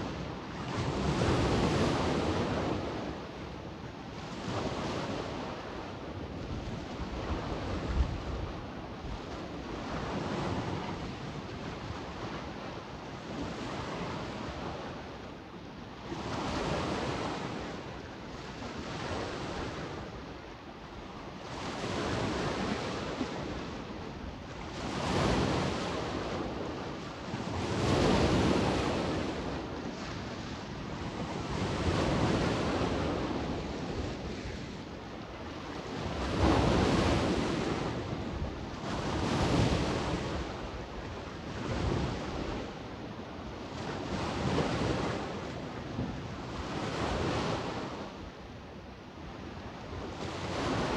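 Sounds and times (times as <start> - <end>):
wind on microphone: 0.0 - 15.4, 16.0 - 50.9.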